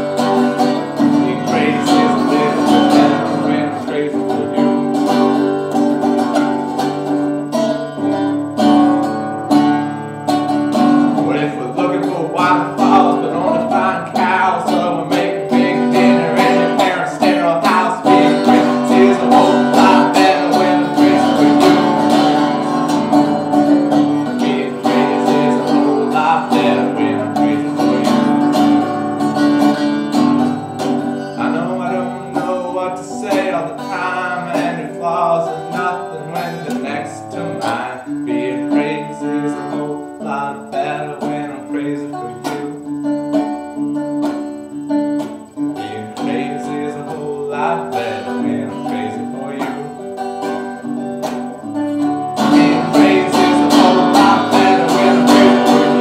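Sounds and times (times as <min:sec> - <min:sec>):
man singing: 0:00.0 - 0:56.0
resonator guitar strumming: 0:00.0 - 0:56.0.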